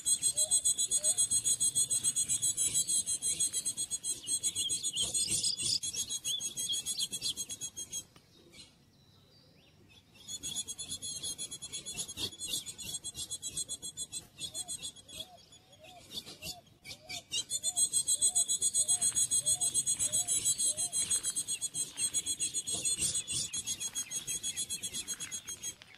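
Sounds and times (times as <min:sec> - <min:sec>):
insect trilling: 0:00.0 - 0:08.0, 0:10.4 - 0:15.0, 0:17.4 - 0:25.9.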